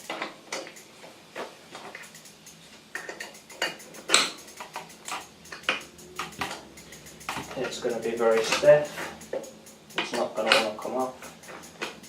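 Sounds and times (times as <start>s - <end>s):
spanner clicking on metal tool: 1.9s - 12.0s.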